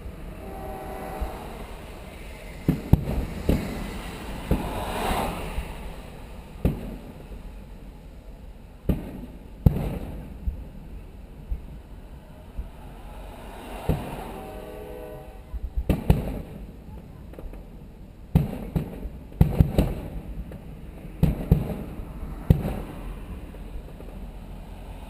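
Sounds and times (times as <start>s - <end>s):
fireworks bursting: 1.2s - 7.9s, 8.7s - 11.9s, 12.6s - 14.4s, 15.6s - 25.0s.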